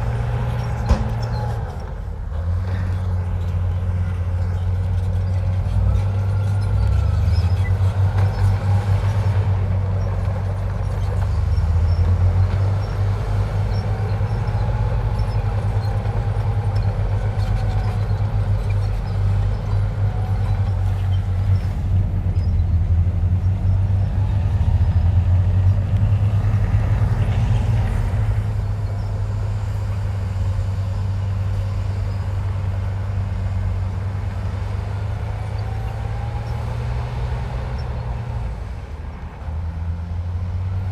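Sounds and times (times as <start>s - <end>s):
diesel engine rumbling: 0.0s - 40.9s.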